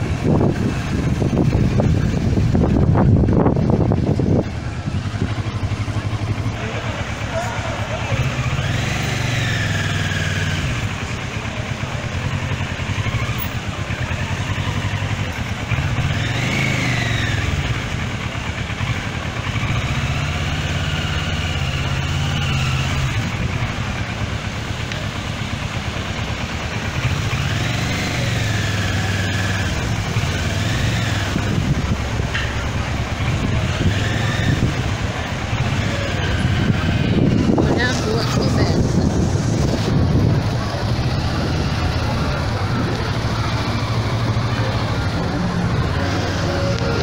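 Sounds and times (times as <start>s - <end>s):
motorcycle engine revving: 0.0s - 47.0s
road and wind noise: 0.0s - 47.0s.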